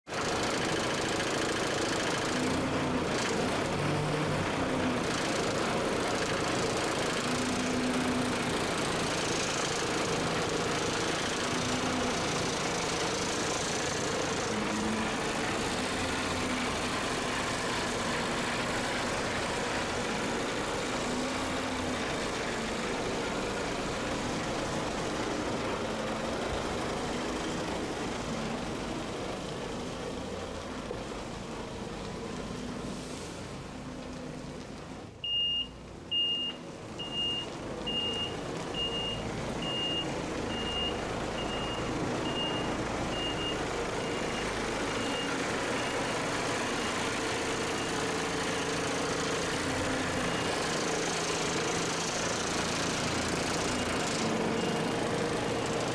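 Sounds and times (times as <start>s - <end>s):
truck diesel engine running: 0.1s - 55.9s.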